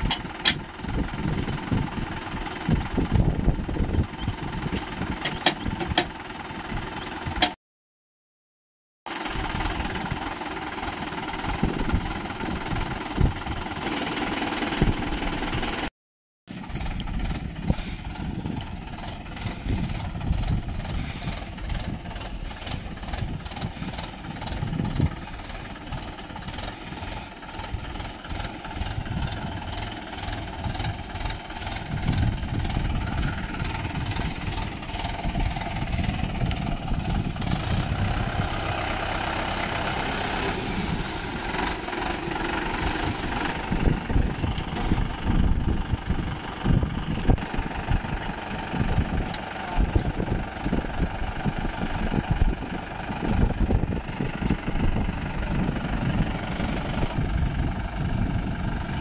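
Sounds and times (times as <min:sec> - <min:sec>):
tractor diesel engines running: 0:00.0 - 0:07.6, 0:09.1 - 0:15.9, 0:16.5 - 0:59.0.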